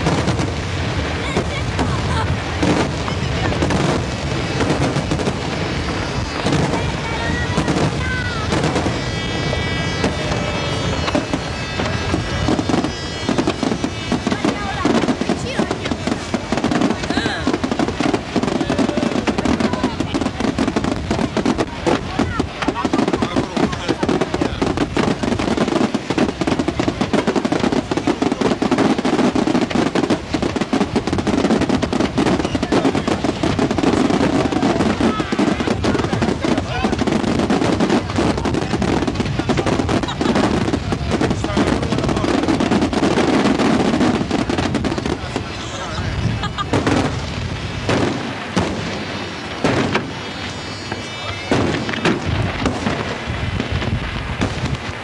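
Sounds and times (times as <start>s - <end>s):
fireworks crackling and banging: 0.0s - 55.0s.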